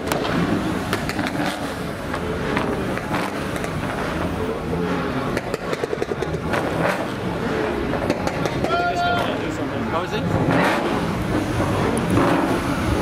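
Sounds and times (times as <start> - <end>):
car engine rolling by: 0.0 - 13.0.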